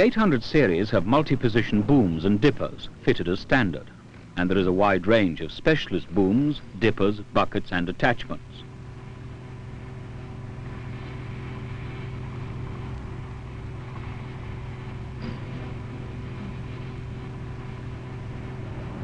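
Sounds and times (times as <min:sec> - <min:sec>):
diesel excavator engine running: 0:00.0 - 0:19.0.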